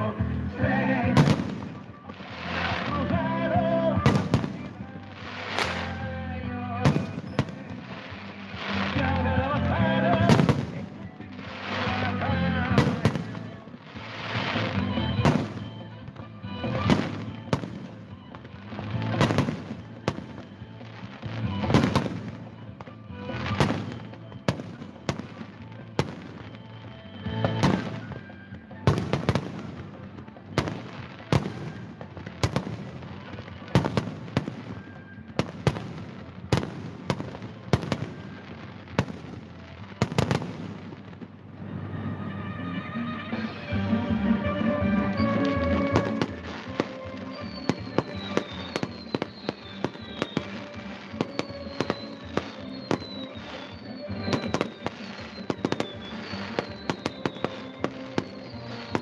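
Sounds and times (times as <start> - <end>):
fireworks bursting with bangs: 0.0 - 59.0.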